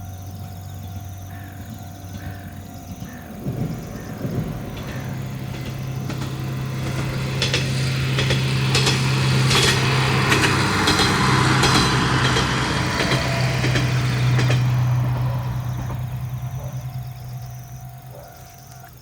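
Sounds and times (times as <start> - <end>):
diesel engine drone: 0.0 - 19.0
wheels rushing and clicking on rails: 0.0 - 19.0.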